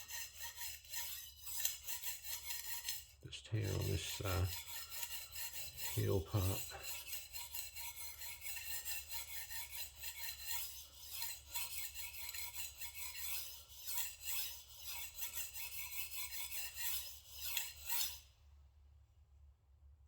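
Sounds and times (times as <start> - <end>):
knife rasping on whetstone: 0.0 - 18.3.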